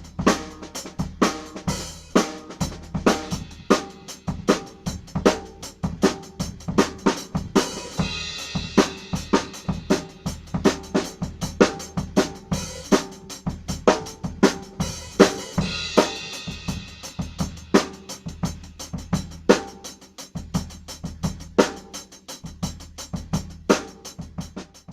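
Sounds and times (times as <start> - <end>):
drum kit groove: 0.0 - 24.9.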